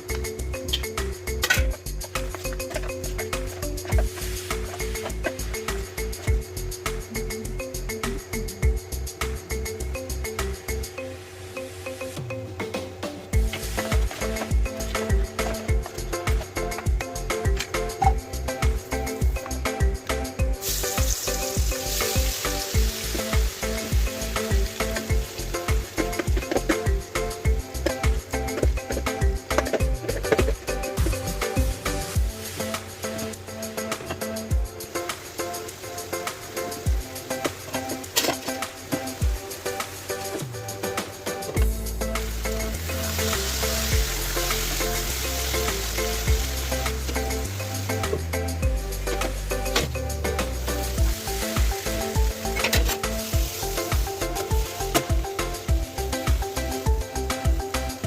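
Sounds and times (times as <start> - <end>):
background music with steady beat: 0.0 - 58.0
food sizzling in hot oil: 0.7 - 10.6, 13.4 - 48.2, 50.4 - 57.9.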